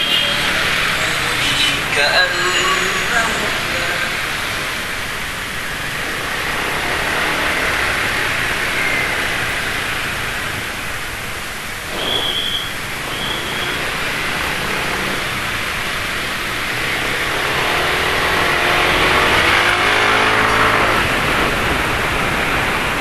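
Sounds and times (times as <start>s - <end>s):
vehicle passing: 0.0s - 11.1s, 12.8s - 23.0s
scooter wind and road noise: 0.0s - 23.0s.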